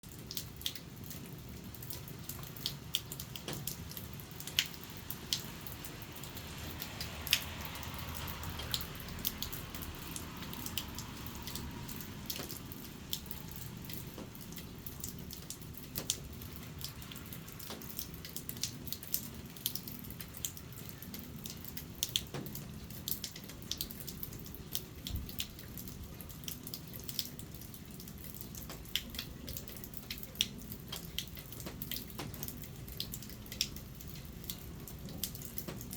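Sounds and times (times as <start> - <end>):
rain: 0.0 - 35.9
water dripping from roof: 0.0 - 35.9.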